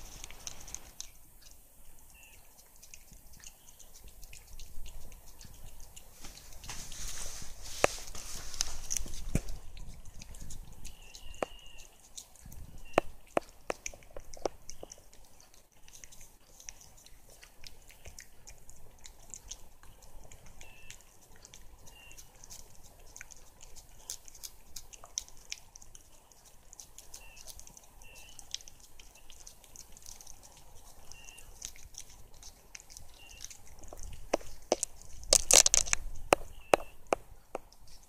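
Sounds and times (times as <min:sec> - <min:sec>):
cat licking and eating: 0:00.0 - 0:38.0.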